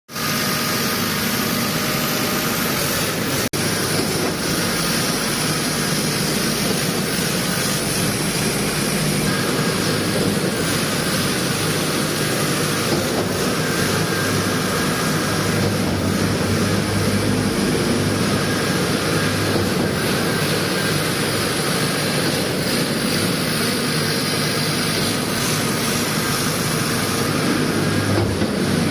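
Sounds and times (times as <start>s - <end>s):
diesel engine running: 0.6s - 28.9s.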